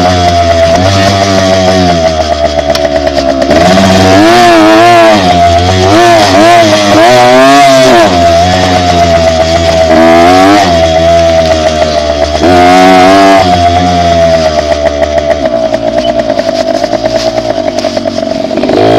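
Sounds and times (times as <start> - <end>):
dirt bike engine revving: 0.0 - 18.9.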